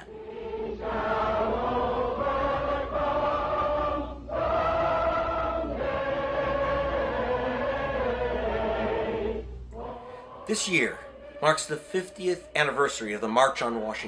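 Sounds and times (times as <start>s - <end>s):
choir singing long notes: 0.0s - 14.0s.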